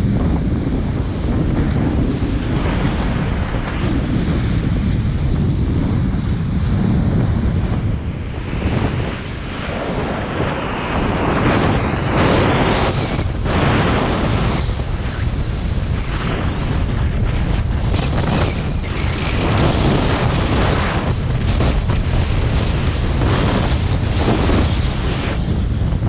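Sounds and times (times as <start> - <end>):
water rushing under board: 0.0 - 26.0
wind buffeting microphone: 0.0 - 26.0.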